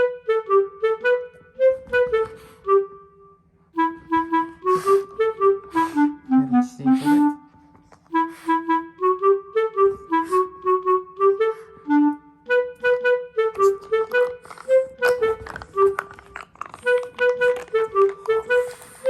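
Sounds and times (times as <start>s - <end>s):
bouncy woodwind melody: 0.0s - 19.0s.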